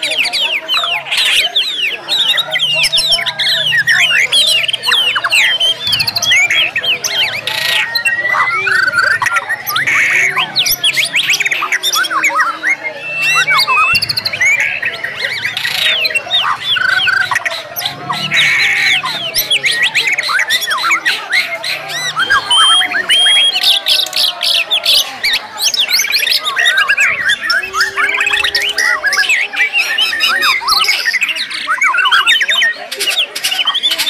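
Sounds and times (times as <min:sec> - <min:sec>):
songbirds singing in chorus: 0:00.0 - 0:34.0.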